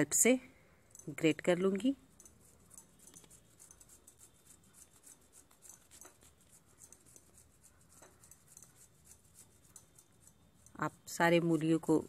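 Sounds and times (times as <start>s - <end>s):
radish scraping on metal grater: 1.0s - 12.0s.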